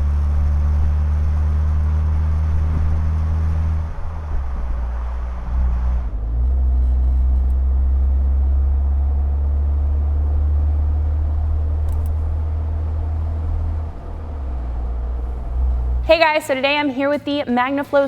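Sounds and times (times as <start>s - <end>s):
low exhaust note: 0.0s - 18.0s.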